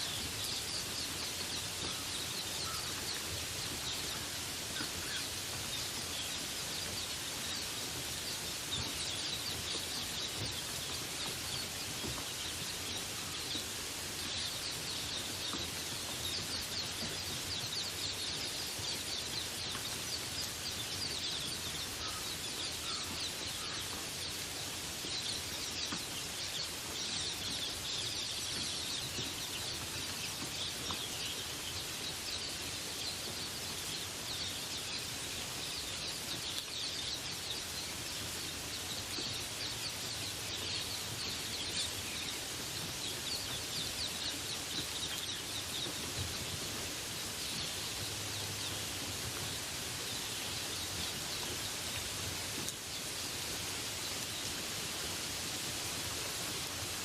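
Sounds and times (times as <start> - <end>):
small birds chirping: 0.0 - 57.0
steady rain hiss: 0.0 - 57.0.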